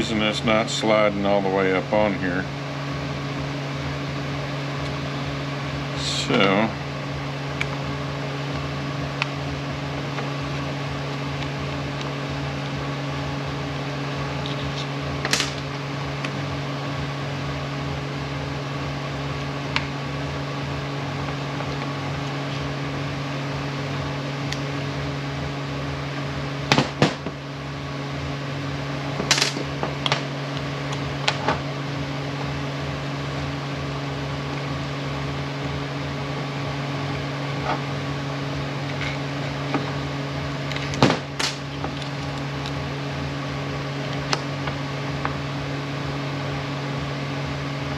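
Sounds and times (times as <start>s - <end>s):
low machine hum: 0.0s - 47.9s.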